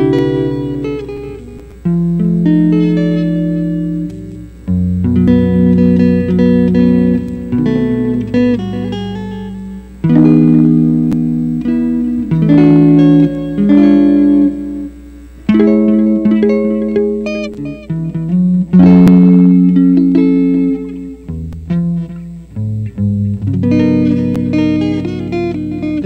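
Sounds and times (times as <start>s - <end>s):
solo guitar playing: 0.0s - 26.0s.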